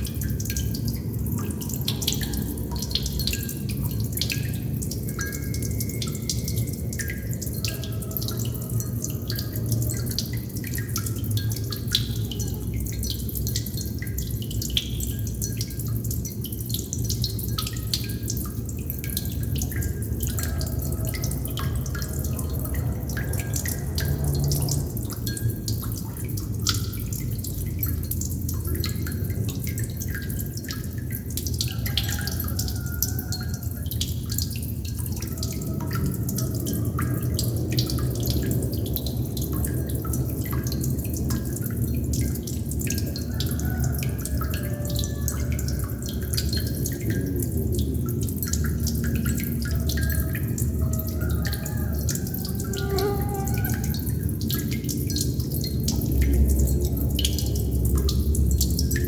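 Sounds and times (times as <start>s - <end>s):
water droplets plinking into water: 0.0s - 59.0s.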